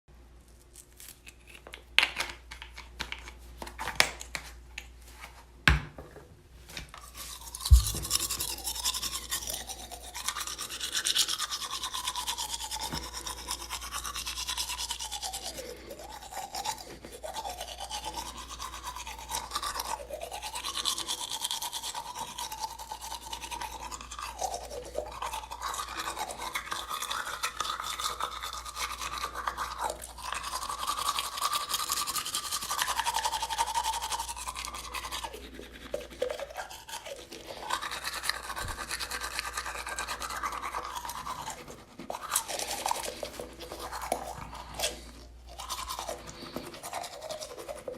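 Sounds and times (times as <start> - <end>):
toothbrush scrubbing teeth: 7.0 - 47.9.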